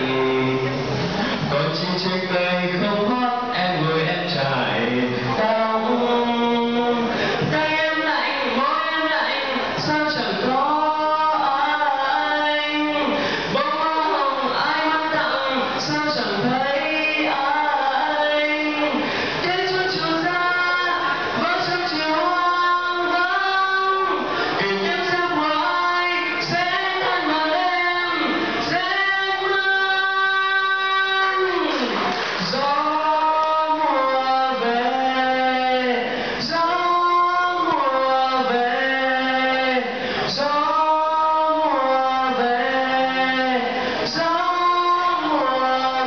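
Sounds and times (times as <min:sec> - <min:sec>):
young man singing: 0:00.0 - 0:46.0.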